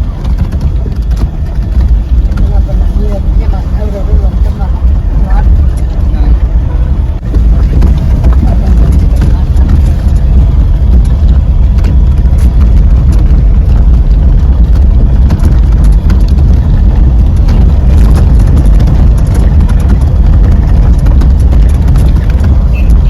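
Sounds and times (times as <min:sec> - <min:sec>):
knocks and rattles: 0:00.0 - 0:23.0
vehicle rumbling over rough road: 0:00.0 - 0:23.0.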